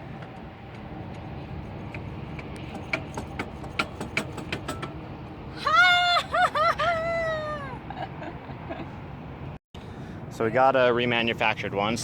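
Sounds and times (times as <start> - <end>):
low background rumble: 0.0 - 11.4.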